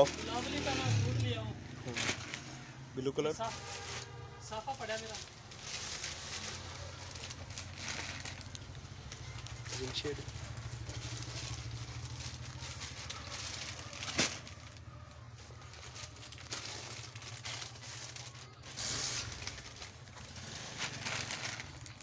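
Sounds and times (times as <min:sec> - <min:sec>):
plastic packaging rustling: 0:00.0 - 0:22.0.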